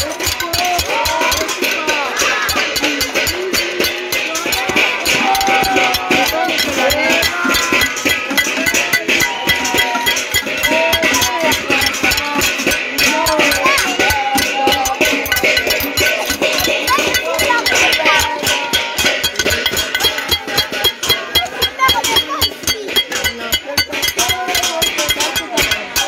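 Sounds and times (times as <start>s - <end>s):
pots and pans being beaten: 0.0s - 26.0s
voices calling out: 0.0s - 26.0s.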